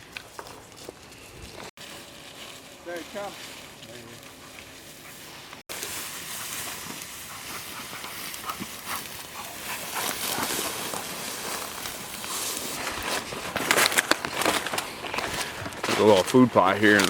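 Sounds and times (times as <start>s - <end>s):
dry grass rustling underfoot: 0.0s - 17.0s.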